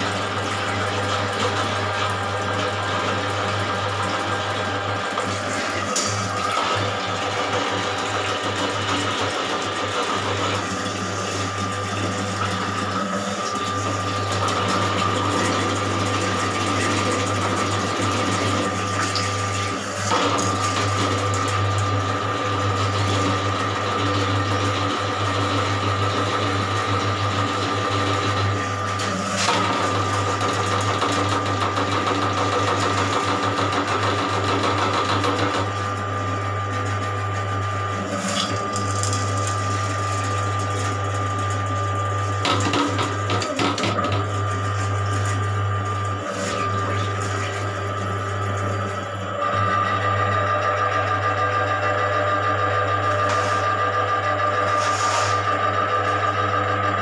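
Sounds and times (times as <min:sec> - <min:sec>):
drain-cleaning machine motor humming: 0:00.0 - 0:57.0.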